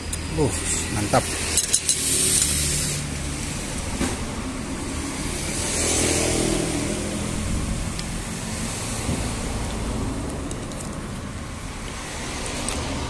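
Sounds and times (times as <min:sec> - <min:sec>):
road traffic engine hum: 0:00.0 - 0:13.0
vehicle passing: 0:00.3 - 0:13.0.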